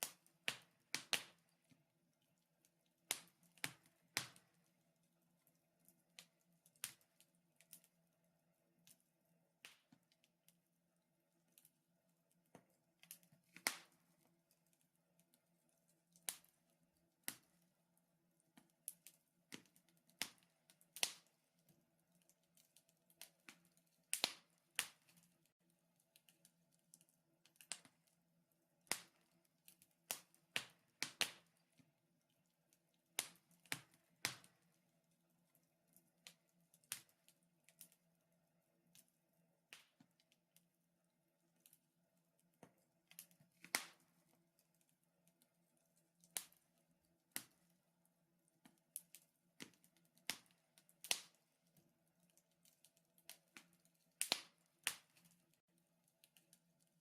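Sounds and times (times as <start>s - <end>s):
wood fire crackling: 0.0s - 7.9s, 12.3s - 17.7s, 18.4s - 28.2s, 28.8s - 38.0s, 42.6s - 47.8s, 48.5s - 57.0s.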